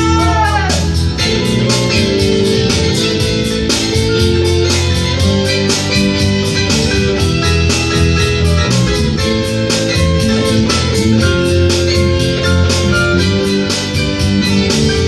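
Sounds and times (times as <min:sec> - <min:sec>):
instrumental music with beat: 0:00.0 - 0:15.0
plucked guitar: 0:00.0 - 0:15.0.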